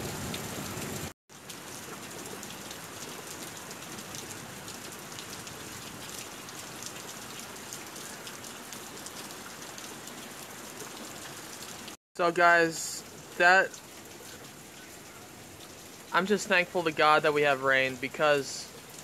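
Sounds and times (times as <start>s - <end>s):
heavy rain falling on puddle: 0.0s - 19.0s.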